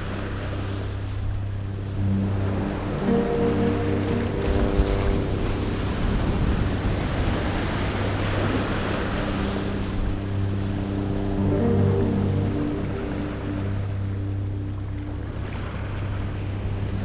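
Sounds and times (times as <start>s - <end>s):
soft background music: 0.0s - 17.0s
steady rushing noise: 0.0s - 17.0s.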